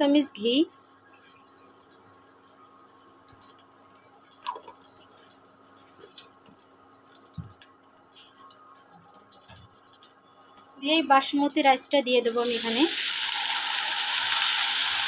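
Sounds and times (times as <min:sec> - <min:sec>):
ghee sizzling in hot oil: 0:00.1 - 0:15.0.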